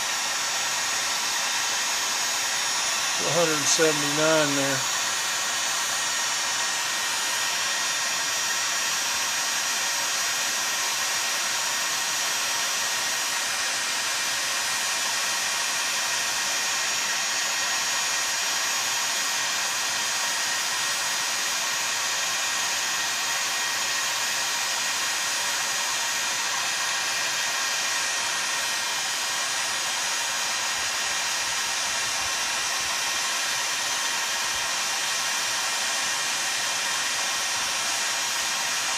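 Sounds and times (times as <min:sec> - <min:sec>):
heat gun blowing hot air: 0:00.0 - 0:38.9.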